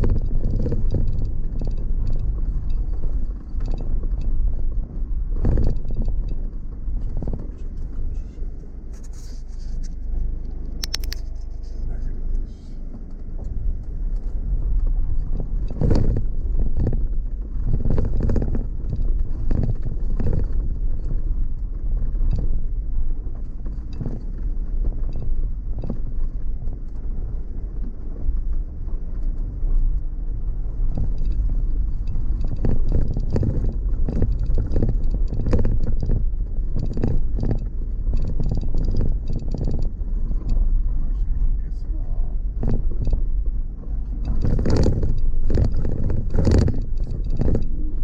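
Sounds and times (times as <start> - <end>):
knocks and rattles over bumps: 0.0 - 8.8, 12.8 - 48.0
vehicle rumbling on dirt track: 0.0 - 48.0.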